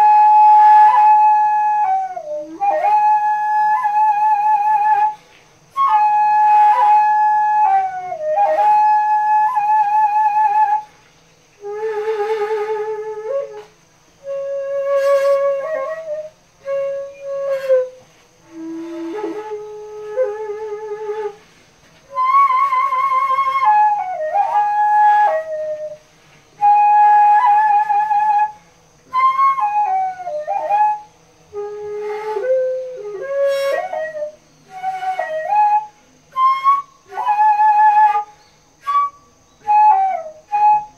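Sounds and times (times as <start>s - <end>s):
bamboo flute playing slow phrases: 0.0s - 40.9s.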